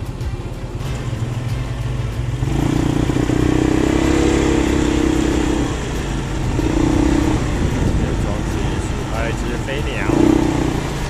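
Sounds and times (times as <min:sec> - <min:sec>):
scooter motor hum: 0:00.0 - 0:11.0
wind and road noise: 0:00.0 - 0:11.0.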